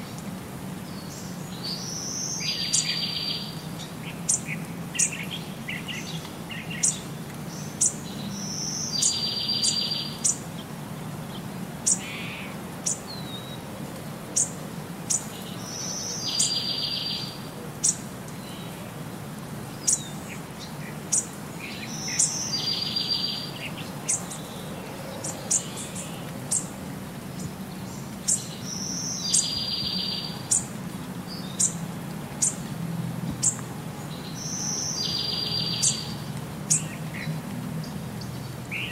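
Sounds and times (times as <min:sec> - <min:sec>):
birds chirping: 0:00.8 - 0:13.7, 0:14.3 - 0:19.0, 0:19.6 - 0:32.7, 0:33.3 - 0:38.9.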